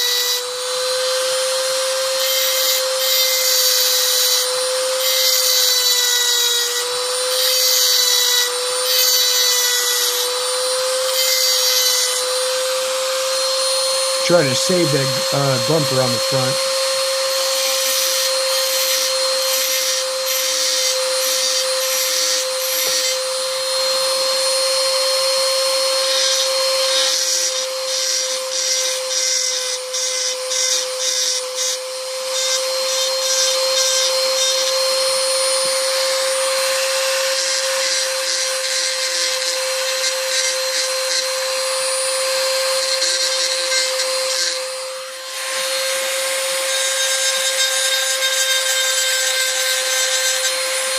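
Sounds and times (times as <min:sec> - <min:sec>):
rotary tool grinding: 0:02.1 - 0:14.2, 0:16.8 - 0:24.2, 0:26.0 - 0:50.9.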